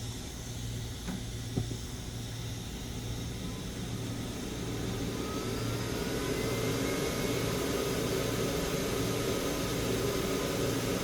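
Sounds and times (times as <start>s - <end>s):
hot air station blowing: 1.1s - 11.0s
faint rising whine: 2.1s - 11.0s.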